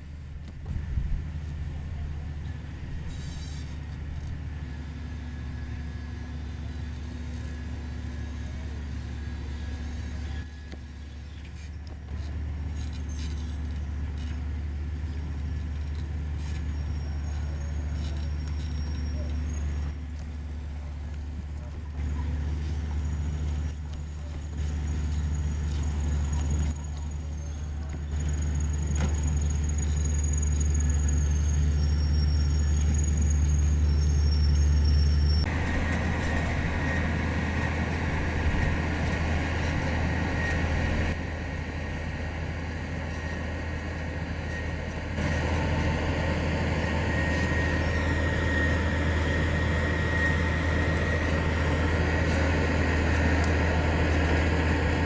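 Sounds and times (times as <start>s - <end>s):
heavy diesel engine running: 0.0s - 55.0s
thin mechanical whine: 0.0s - 55.0s.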